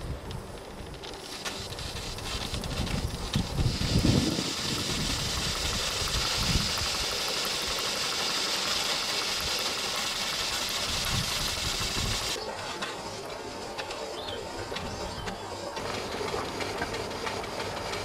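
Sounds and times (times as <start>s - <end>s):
steam hissing: 0.0s - 18.0s.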